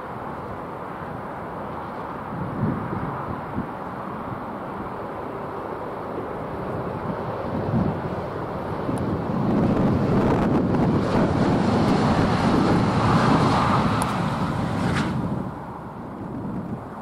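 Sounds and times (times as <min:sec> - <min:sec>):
electric train passing at speed: 0:00.0 - 0:17.0
wind buffeting microphone: 0:01.1 - 0:05.1, 0:05.9 - 0:17.0.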